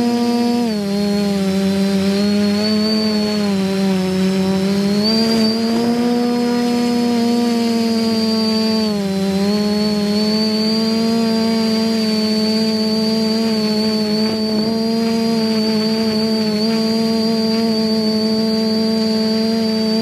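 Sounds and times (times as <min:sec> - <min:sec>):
drone motors whining hum: 0:00.0 - 0:20.0.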